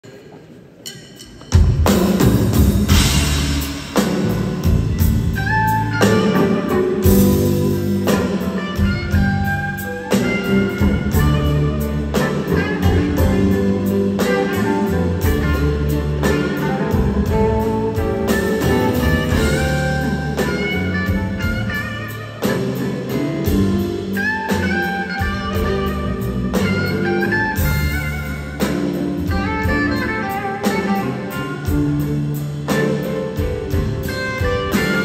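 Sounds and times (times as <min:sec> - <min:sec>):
electric blues band playing: 0:01.3 - 0:35.0.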